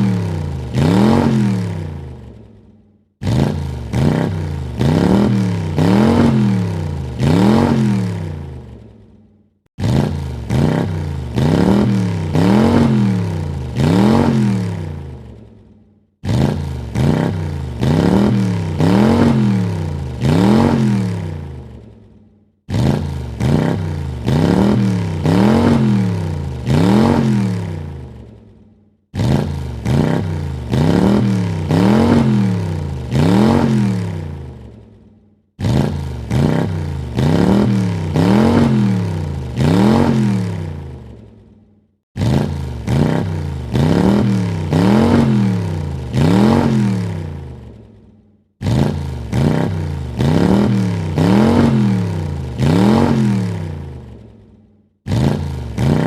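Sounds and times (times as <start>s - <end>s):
car engine revving: 0.0s - 2.5s, 3.2s - 8.9s, 9.8s - 15.4s, 16.2s - 21.9s, 22.7s - 28.4s, 29.1s - 34.8s, 35.6s - 41.2s, 42.2s - 47.8s, 48.6s - 54.3s, 55.1s - 56.0s.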